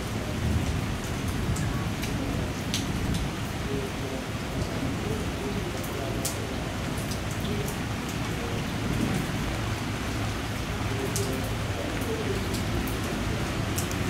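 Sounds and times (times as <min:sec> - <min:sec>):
rain falling steadily: 0:00.0 - 0:14.0
raindrops tapping close by: 0:00.0 - 0:14.0.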